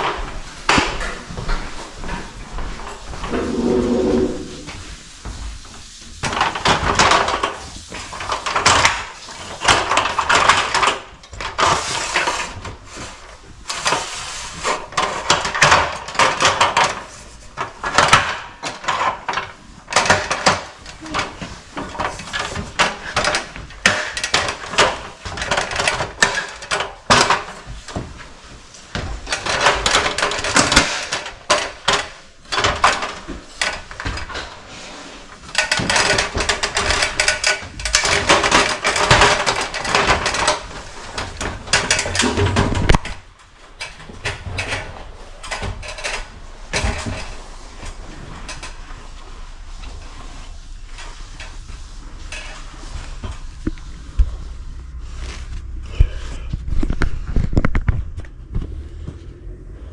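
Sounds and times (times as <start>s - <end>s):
rustling and clattering knocks: 0.0s - 59.9s.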